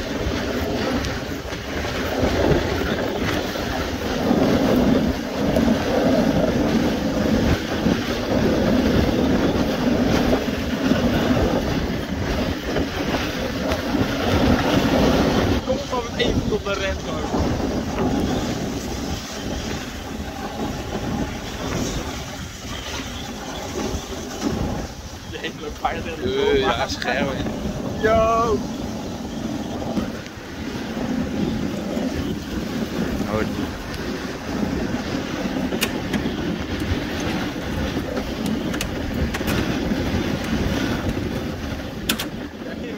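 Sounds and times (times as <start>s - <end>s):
sled runners scraping on snow: 0.0s - 42.9s.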